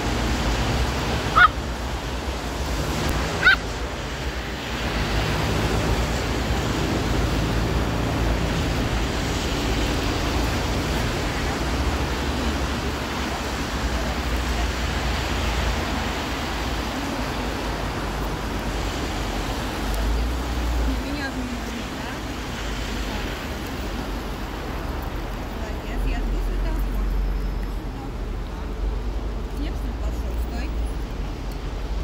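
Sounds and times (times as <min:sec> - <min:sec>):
traffic on wet road: 0:00.0 - 0:32.0.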